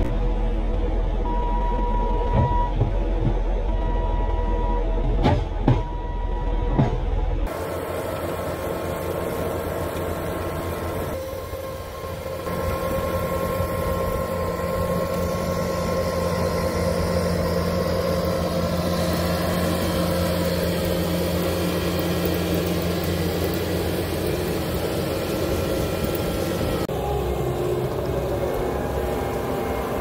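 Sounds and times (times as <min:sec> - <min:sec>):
diesel engine running under load: 0:00.0 - 0:30.0.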